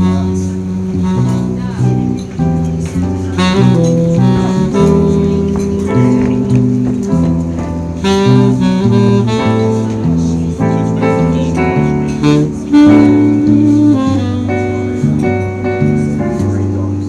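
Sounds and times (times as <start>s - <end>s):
acoustic guitar: 0.0s - 17.0s
bass: 0.0s - 17.0s
electric piano: 0.0s - 17.0s
saxophone melody: 0.0s - 17.0s
swing jazz band playing: 0.0s - 17.0s.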